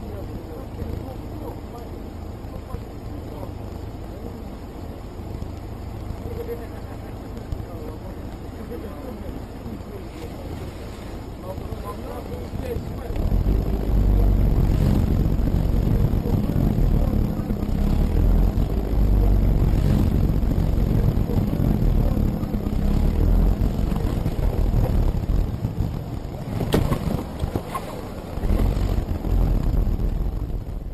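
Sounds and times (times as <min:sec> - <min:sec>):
vehicle rumbling: 0:00.0 - 0:30.9.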